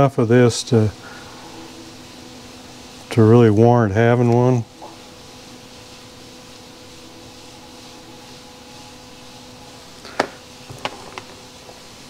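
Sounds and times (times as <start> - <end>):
background hum: 0.0 - 11.8.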